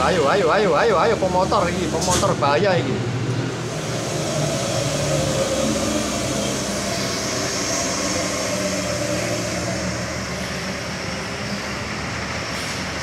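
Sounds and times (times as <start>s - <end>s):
diesel buses and truck passing: 0.0s - 13.0s.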